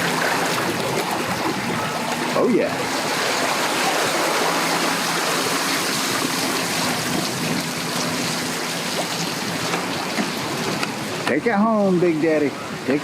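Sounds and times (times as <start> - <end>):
wind on microphone: 0.0 - 11.2
low engine hum: 0.0 - 12.9.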